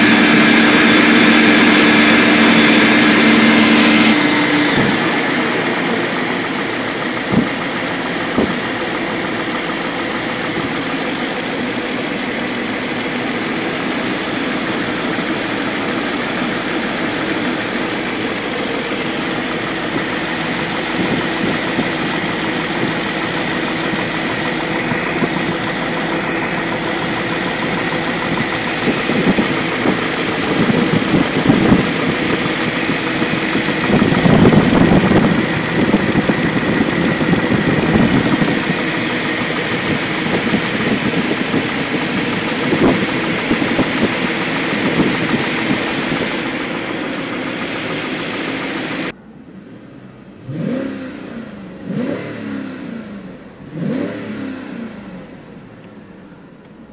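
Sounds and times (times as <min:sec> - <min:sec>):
engine knocking: 0:00.0 - 0:49.2
car engine idling: 0:00.0 - 0:50.7.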